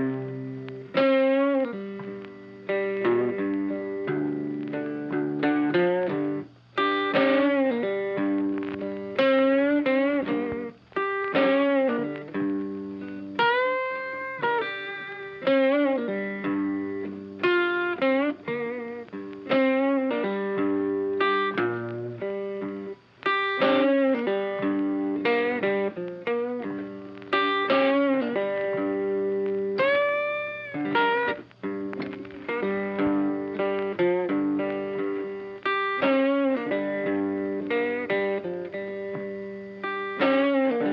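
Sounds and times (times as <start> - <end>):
instrumental guitar music: 0.0 - 40.9.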